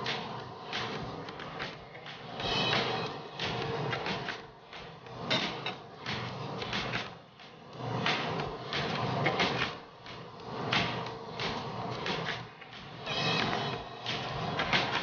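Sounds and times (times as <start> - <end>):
water boiling: 0.0 - 15.0
wooden spoon scraping and knocking pot: 2.3 - 15.0.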